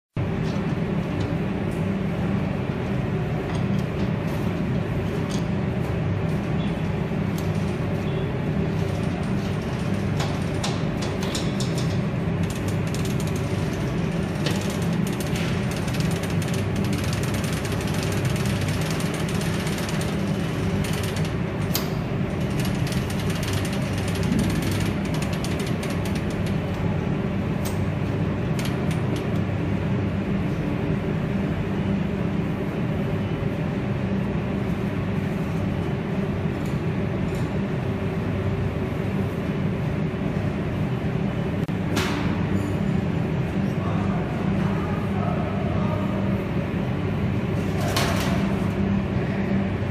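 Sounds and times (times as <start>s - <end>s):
machinery humming and rattling: 0.2s - 49.9s.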